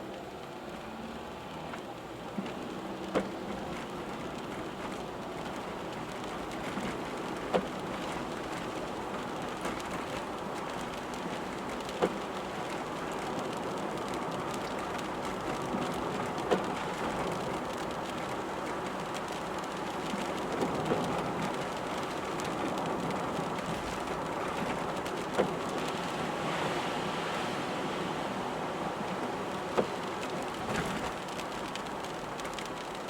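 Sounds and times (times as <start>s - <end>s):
rain on a moving car: 0.0s - 33.0s
road noise: 0.0s - 33.0s.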